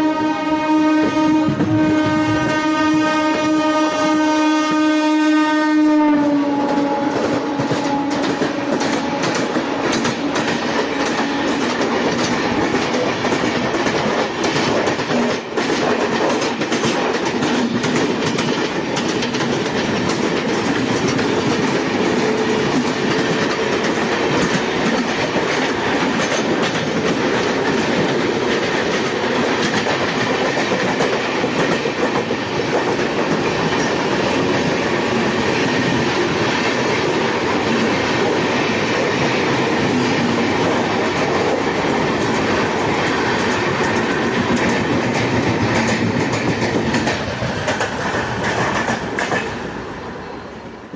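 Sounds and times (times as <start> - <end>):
trains rumbling at speed: 0.0 - 50.9
clickety-clack over rail joints: 1.0 - 2.6, 6.2 - 49.7.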